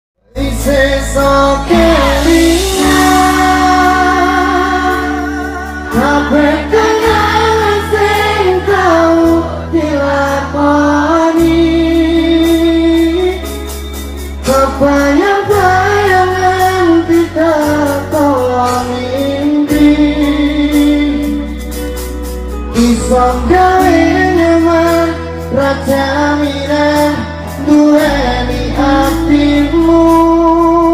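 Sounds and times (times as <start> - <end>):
man singing into a microphone: 0.2 - 30.9
pop band backing: 0.2 - 30.9.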